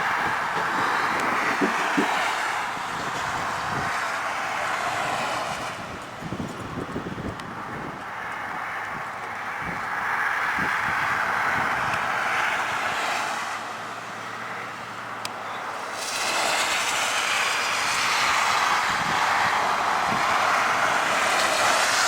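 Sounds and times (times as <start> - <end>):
pickup truck plowing snow: 0.0 - 22.0.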